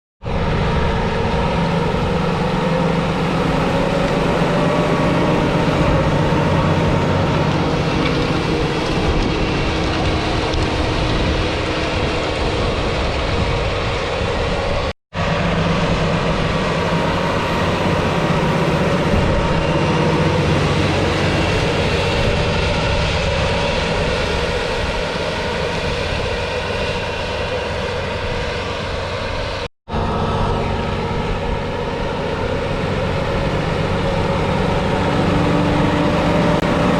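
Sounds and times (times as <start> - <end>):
tractor diesel engine running: 0.2 - 36.9.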